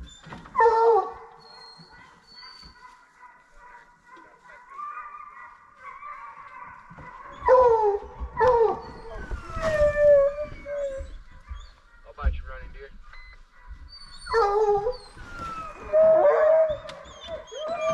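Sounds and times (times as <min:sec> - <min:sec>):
hounds baying and howling: 0:00.4 - 0:17.9.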